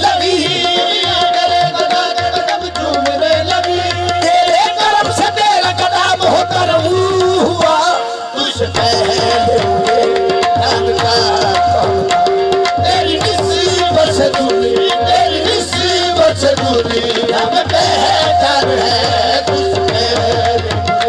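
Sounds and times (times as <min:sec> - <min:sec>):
harmonium drone and melody: 0:00.0 - 0:21.0
tabla beat: 0:00.0 - 0:21.0.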